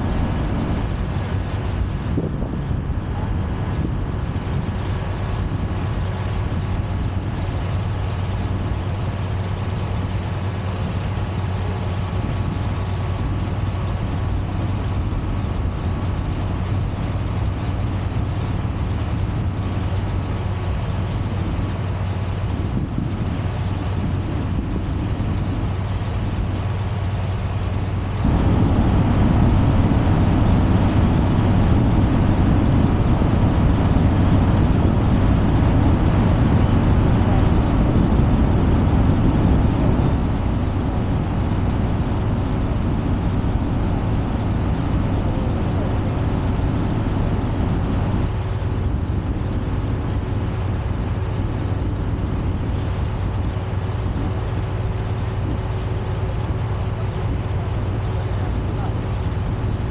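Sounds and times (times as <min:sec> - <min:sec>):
motor boat engine humming: 0:00.0 - 0:59.9
rush of wind and water: 0:00.0 - 0:59.9.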